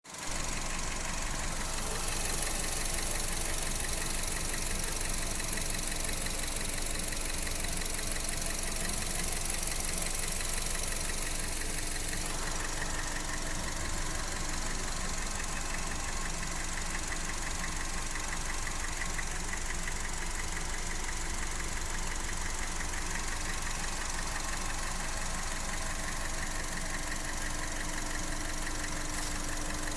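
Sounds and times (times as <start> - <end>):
engine idling: 0.0 - 29.9
repetitive engine knocking: 0.2 - 29.9.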